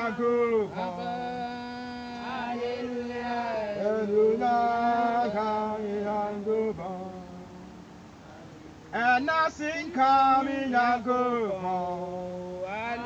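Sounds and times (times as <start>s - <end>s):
voices singing a praise chorus: 0.0s - 8.0s, 8.9s - 13.0s.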